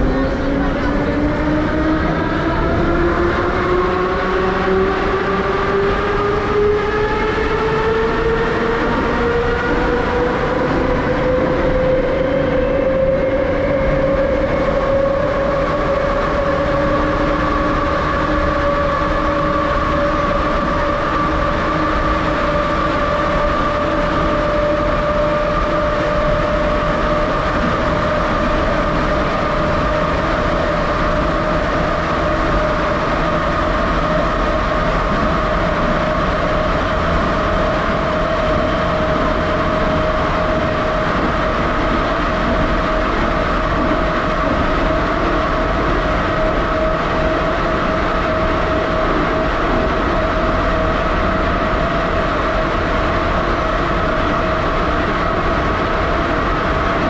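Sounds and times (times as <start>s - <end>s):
traction drive whine: 0.0s - 57.0s
train wheels on rails: 0.0s - 57.0s.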